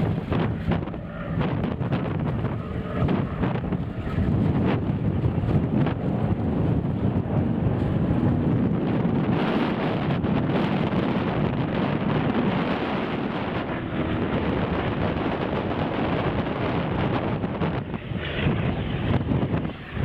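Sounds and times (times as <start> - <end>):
aircraft engine rushing: 0.0 - 20.0
wind buffeting microphone: 0.0 - 20.0.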